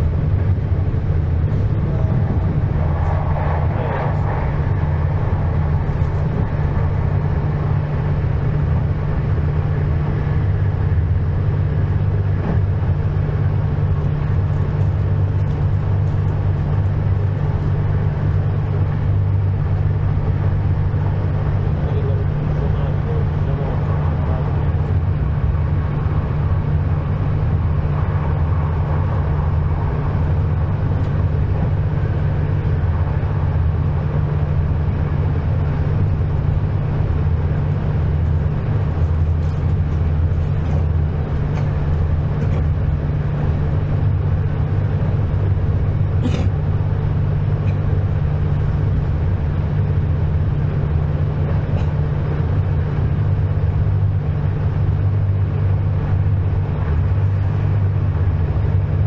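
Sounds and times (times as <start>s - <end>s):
train rumble and drone: 0.0s - 59.0s.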